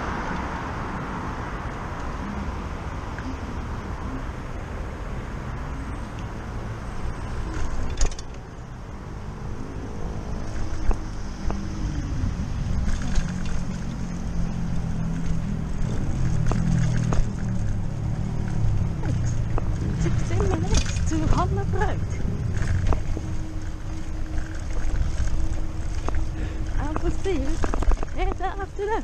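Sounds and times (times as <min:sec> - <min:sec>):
bike rolling and wind noise: 0:00.0 - 0:29.0
road traffic: 0:00.0 - 0:29.0.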